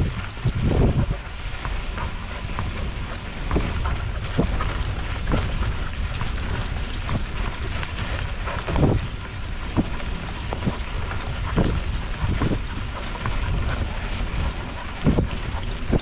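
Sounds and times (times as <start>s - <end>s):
bike knocks and rattles: 0.0s - 13.8s.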